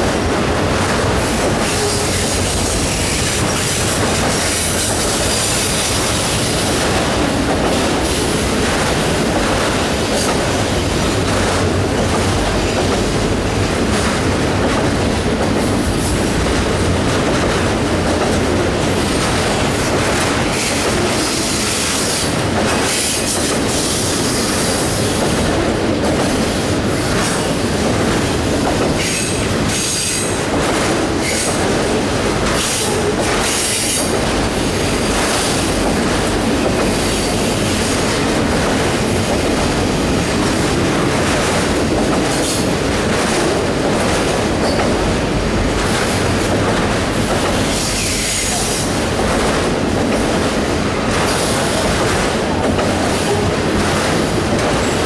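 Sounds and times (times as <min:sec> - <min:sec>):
steel wheels on rail: 0:00.0 - 0:55.0.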